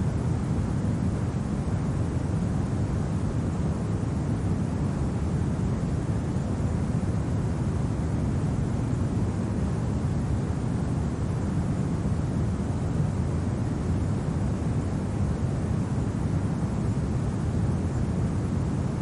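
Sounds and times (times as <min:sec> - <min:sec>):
steady low wind: 0:00.0 - 0:19.0.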